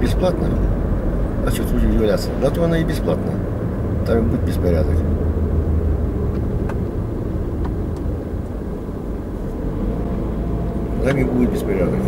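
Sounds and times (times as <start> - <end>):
car engine and road noise inside: 0.0 - 12.0.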